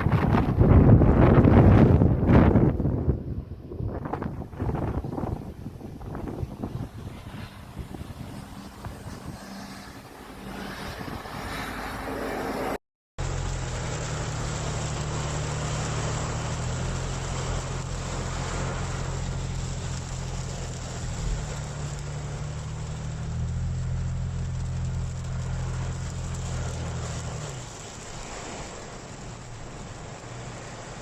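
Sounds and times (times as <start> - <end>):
vehicle engine humming: 0.0 - 31.0
rain and wet road hiss: 4.3 - 12.1, 13.2 - 31.0.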